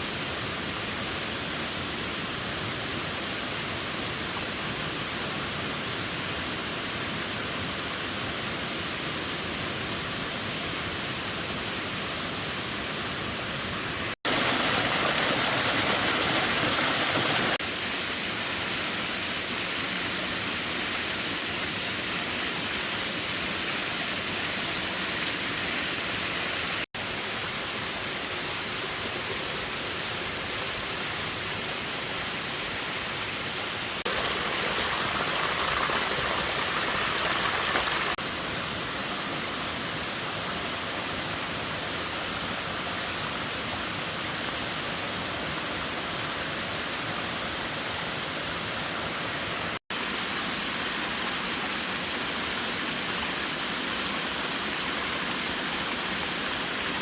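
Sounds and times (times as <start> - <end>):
flowing water rushing: 9.2 - 57.0.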